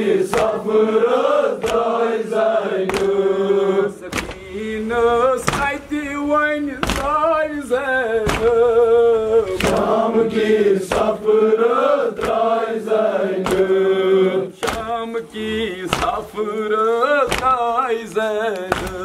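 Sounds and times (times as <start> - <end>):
men chanting a lament: 0.0 - 19.0
rhythmic chest-beating slaps: 0.0 - 19.0.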